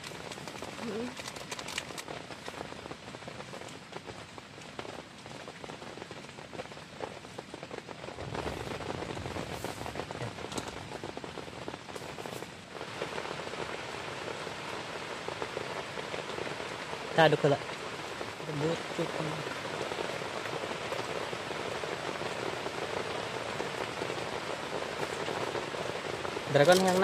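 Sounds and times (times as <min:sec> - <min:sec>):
heavy rain on a tent: 0:00.0 - 0:27.0.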